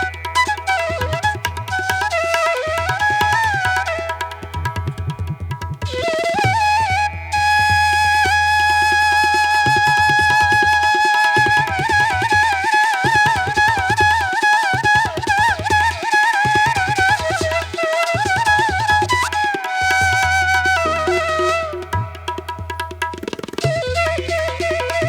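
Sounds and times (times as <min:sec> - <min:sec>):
flute melody: 0:00.0 - 0:25.0
tabla drumming: 0:00.0 - 0:25.0.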